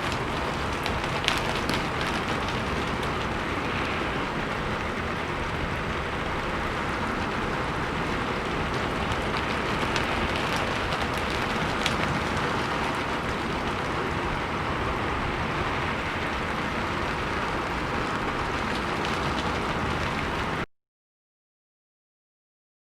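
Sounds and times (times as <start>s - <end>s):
rain on a rooftop: 0.0s - 20.7s.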